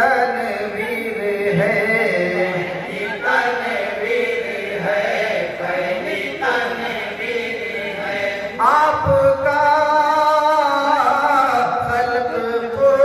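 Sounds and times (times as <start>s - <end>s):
men chanting through microphones: 0.0s - 13.0s.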